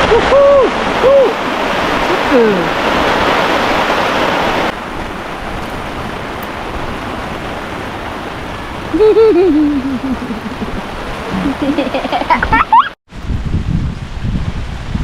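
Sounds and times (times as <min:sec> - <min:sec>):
heavy rain and wind: 0:00.0 - 0:15.0.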